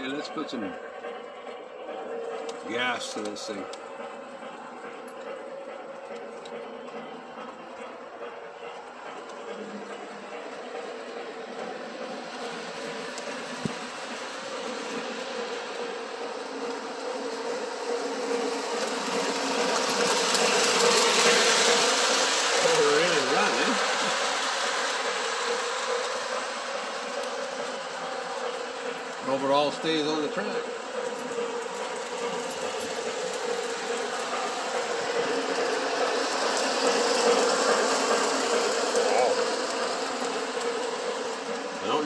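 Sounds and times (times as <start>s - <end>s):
model train wheels rumbling: 0.0s - 42.0s.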